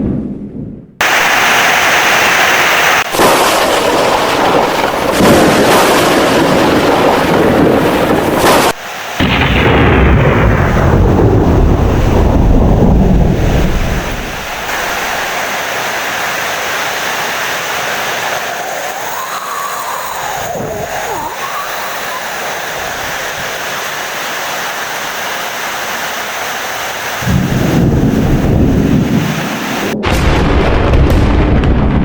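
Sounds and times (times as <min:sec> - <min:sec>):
thunder rumbling: 0:00.0 - 0:23.8, 0:27.0 - 0:32.0
heavy rain: 0:01.0 - 0:30.0.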